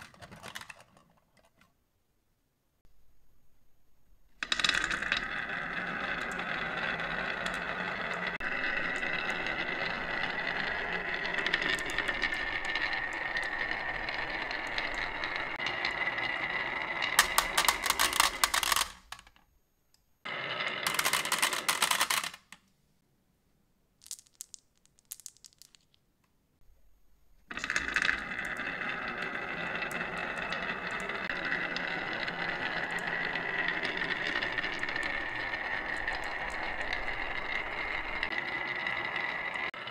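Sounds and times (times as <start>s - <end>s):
marbles rolling on wooden run: 0.0s - 1.7s, 4.4s - 19.4s, 20.3s - 22.6s, 24.0s - 26.0s, 27.5s - 39.9s.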